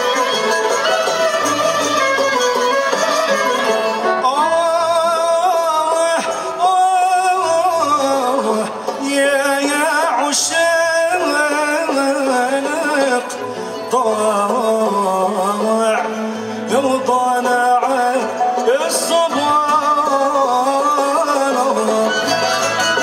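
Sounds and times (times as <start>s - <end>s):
ouds and qanun: 0.0s - 23.0s
plucked lutes: 0.0s - 23.0s
violins: 0.0s - 23.0s.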